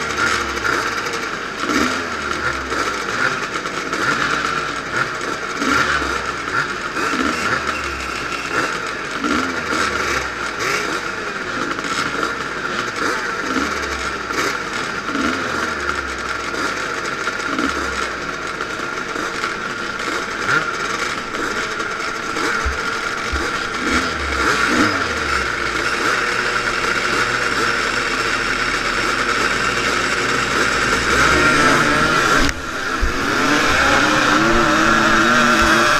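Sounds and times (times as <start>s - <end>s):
motorcycle engines rattling: 0.0s - 35.9s.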